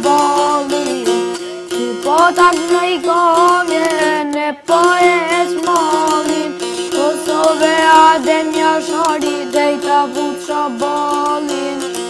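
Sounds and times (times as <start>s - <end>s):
boy singing folk song: 0.0s - 12.0s
plucked lute strings: 0.0s - 12.0s.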